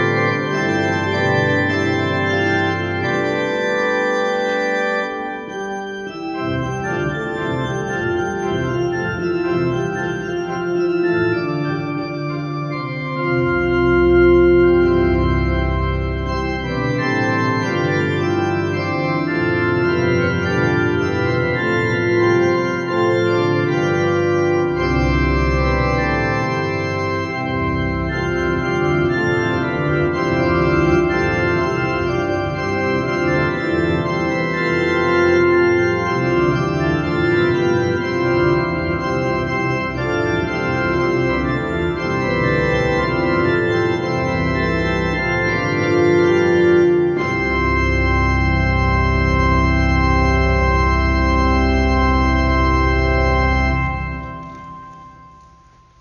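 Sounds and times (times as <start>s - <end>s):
organ playing held chords: 0.0s - 56.0s.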